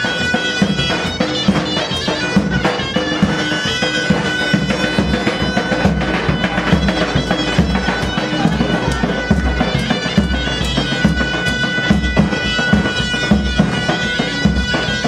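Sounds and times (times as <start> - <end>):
reedy wind instrument melody: 0.0 - 15.0
steady drum beat: 0.0 - 15.0.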